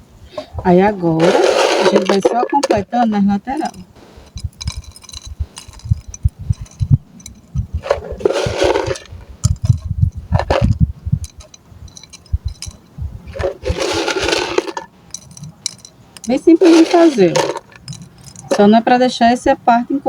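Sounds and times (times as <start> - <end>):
stones knocking: 0.5 - 18.7.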